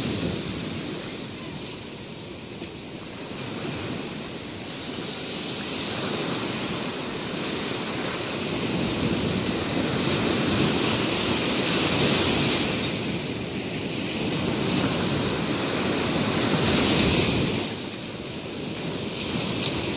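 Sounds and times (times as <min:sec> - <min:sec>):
surf washing onto beach: 0:00.0 - 0:19.9.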